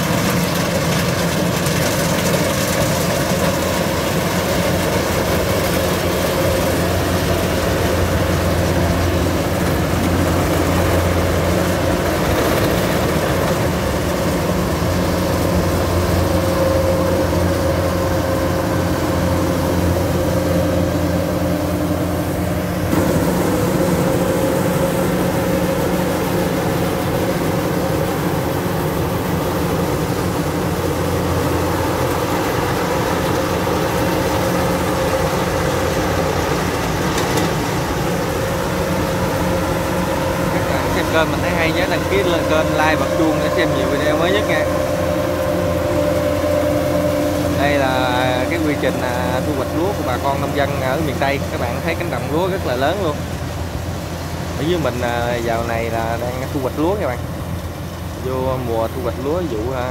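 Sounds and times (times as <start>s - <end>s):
combine harvester diesel drone: 0.0s - 59.9s
steady humming tone: 0.0s - 59.9s.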